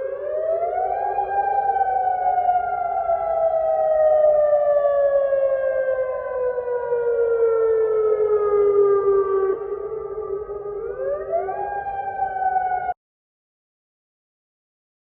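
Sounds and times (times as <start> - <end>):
air-raid siren wailing: 0.0 - 13.0.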